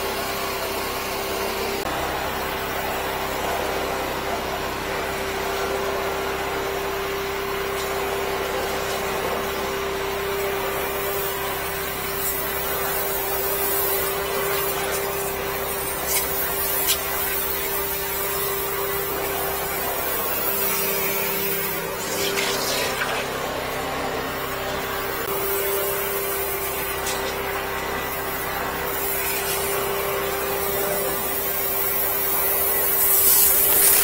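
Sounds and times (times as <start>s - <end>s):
pump hum: 0.0s - 34.0s.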